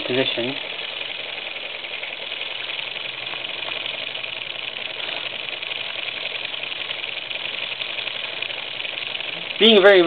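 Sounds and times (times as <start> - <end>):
toy steam engine chattering: 0.0 - 10.0.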